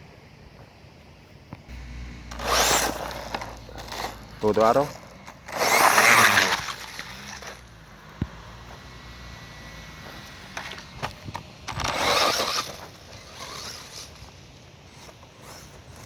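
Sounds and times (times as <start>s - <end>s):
rush of tire and dirt noise: 0.0s - 16.0s.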